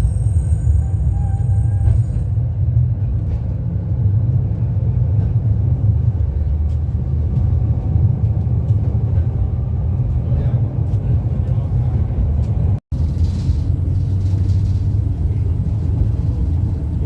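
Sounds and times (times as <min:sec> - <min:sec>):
tram rumbling along track: 0:00.0 - 0:17.0.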